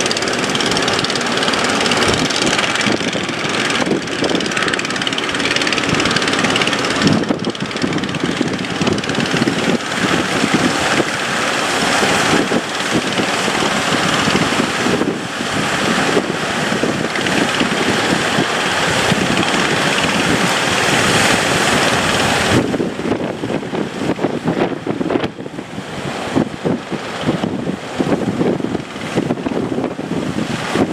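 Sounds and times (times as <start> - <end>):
boat engine running: 0.0 - 30.9
waves rushing and splashing: 0.0 - 30.9
wind buffeting microphone: 0.0 - 30.9.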